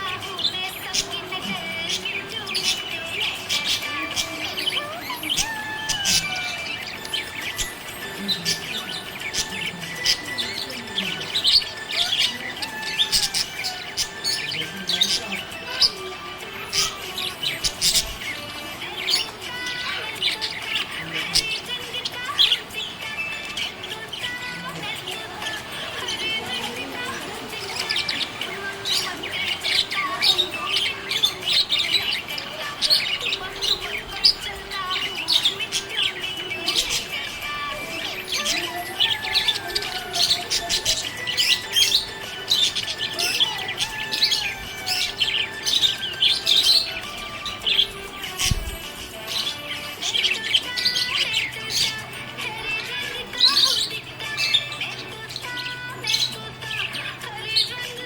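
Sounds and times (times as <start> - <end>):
parrots chirping and twittering: 0.0 - 58.0.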